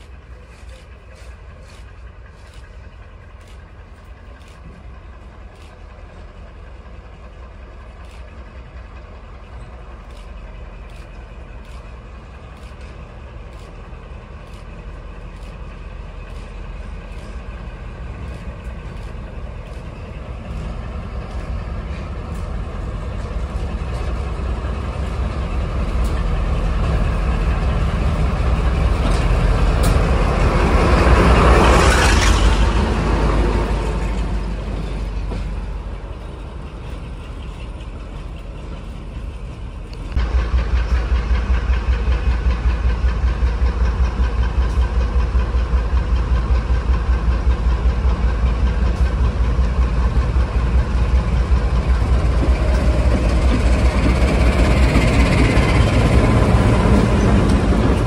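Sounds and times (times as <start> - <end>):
diesel locomotive passing: 0.0 - 58.0.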